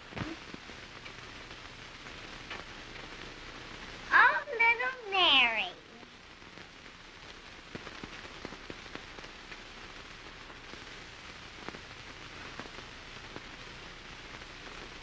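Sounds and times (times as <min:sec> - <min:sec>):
faint crackles and clicks: 0:00.0 - 0:15.0
film soundtrack hiss: 0:00.0 - 0:15.0.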